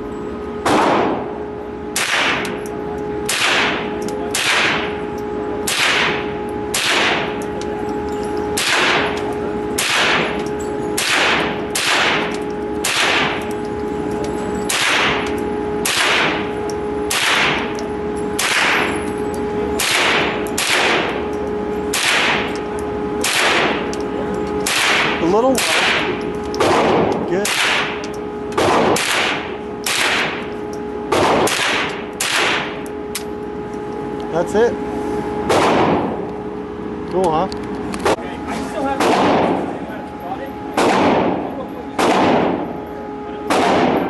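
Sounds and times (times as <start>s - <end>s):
steady hum: 0.0s - 44.0s
gunshots with ringing tail: 0.6s - 13.6s, 14.6s - 33.2s, 35.3s - 36.2s, 38.9s - 39.9s, 40.6s - 44.0s.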